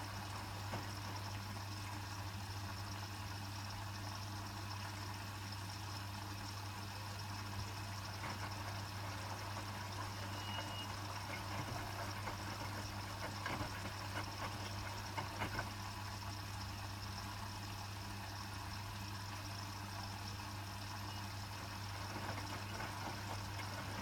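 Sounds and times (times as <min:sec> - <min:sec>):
washing machine low hum: 0:00.0 - 0:24.0
water splashing in washing machine: 0:00.0 - 0:24.0.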